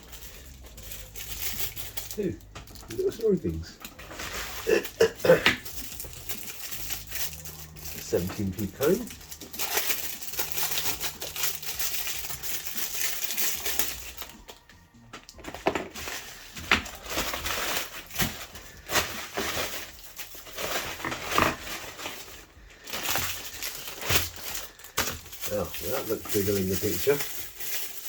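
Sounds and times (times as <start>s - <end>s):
plastic packaging crinkling: 0.0s - 28.0s.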